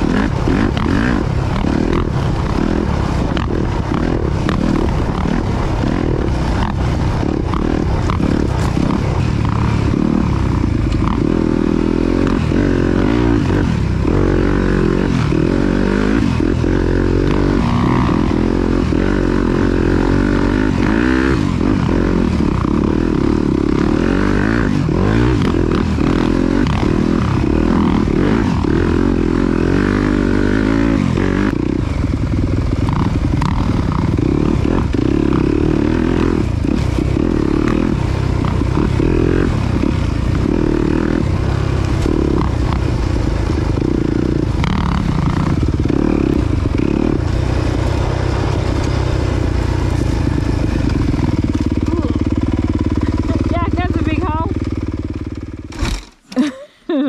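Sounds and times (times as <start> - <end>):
steady rushing noise: 0.0 - 56.0
dirt bike engine revving: 0.0 - 57.0.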